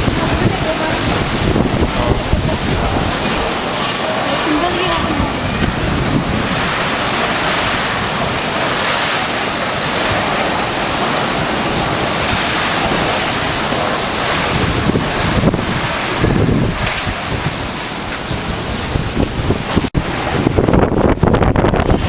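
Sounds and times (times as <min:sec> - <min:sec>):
strong storm wind roaring: 0:00.0 - 0:22.0
wind buffeting microphone: 0:00.0 - 0:22.0.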